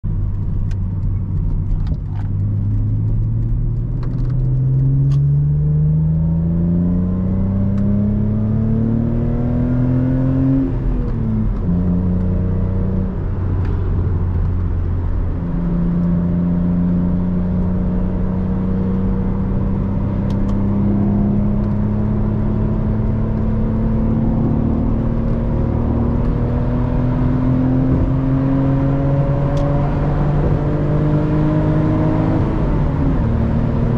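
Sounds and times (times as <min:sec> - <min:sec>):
car engine accelerating through gears: 0:00.2 - 0:33.9.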